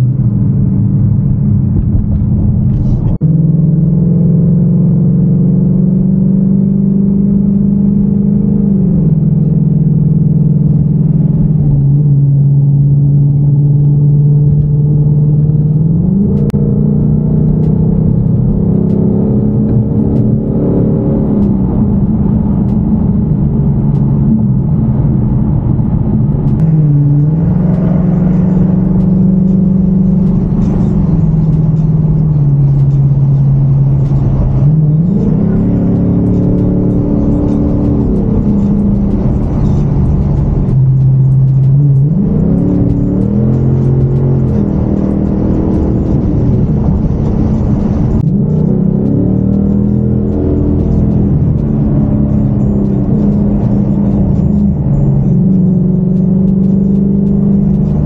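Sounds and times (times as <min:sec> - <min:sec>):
car engine droning: 0:00.0 - 0:58.0
road noise: 0:00.0 - 0:58.0.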